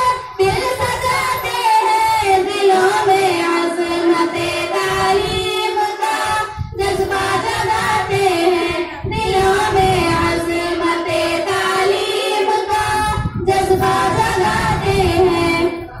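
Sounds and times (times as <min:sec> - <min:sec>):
girls singing together: 0:00.0 - 0:16.0.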